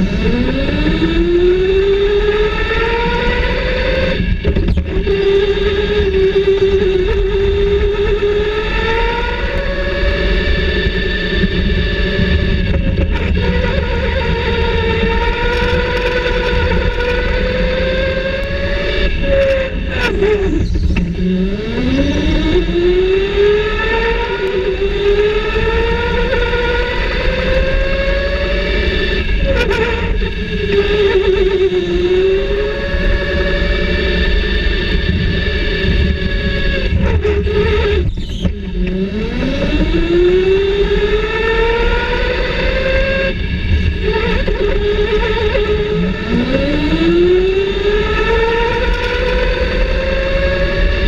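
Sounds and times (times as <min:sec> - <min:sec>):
low rumble: 0:00.0 - 0:50.8
electric motor whining: 0:00.0 - 0:51.0.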